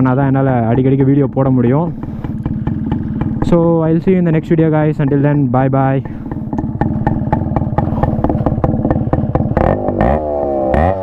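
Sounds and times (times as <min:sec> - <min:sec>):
two-stroke engine popping exhaust: 0:00.0 - 0:11.0.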